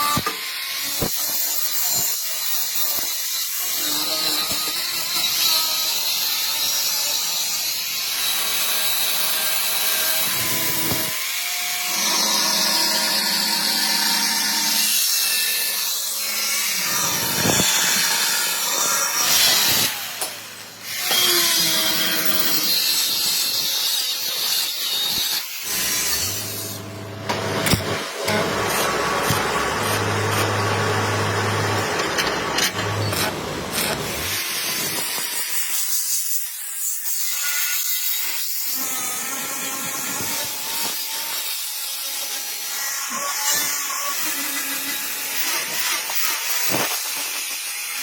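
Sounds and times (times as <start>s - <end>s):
power tool grinding steel: 0.0s - 48.0s.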